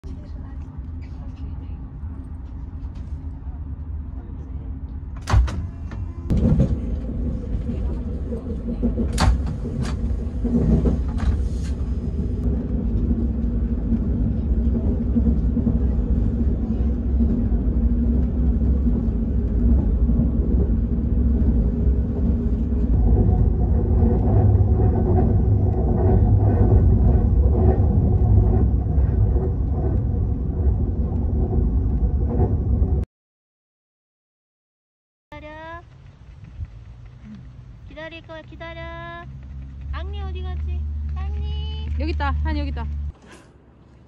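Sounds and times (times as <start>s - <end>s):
train rumble from inside: 0.0s - 33.1s, 35.3s - 44.0s.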